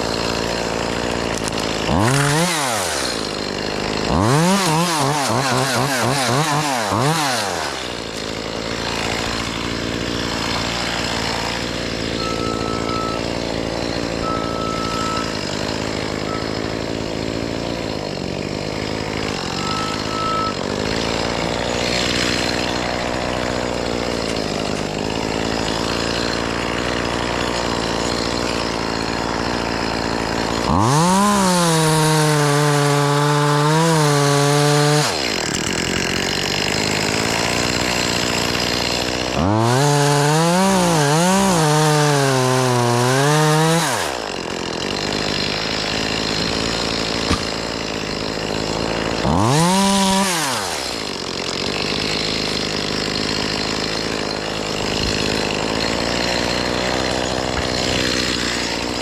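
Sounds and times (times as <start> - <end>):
chainsaw cutting limbs: 0.0 - 59.0.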